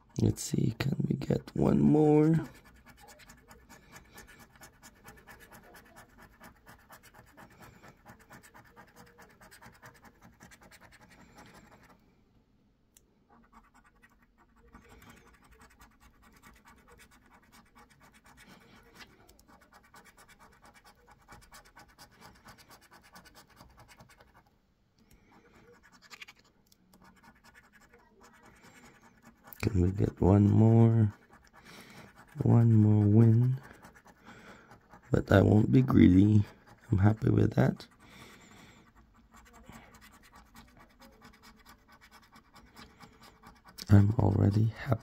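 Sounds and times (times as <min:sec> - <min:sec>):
rapid scratching of scratch card: 0:00.0 - 0:12.0, 0:13.3 - 0:24.5, 0:25.1 - 0:45.0.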